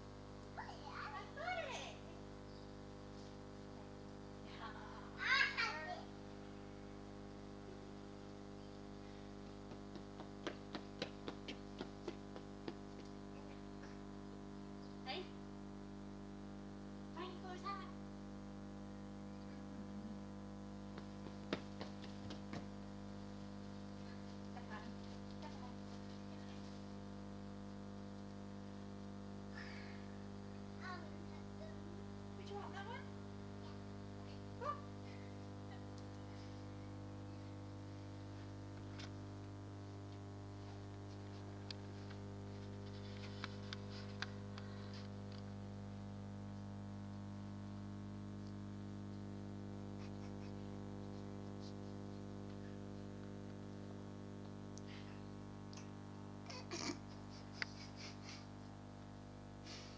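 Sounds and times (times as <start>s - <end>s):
electrical hum with tones: 0.0s - 59.9s.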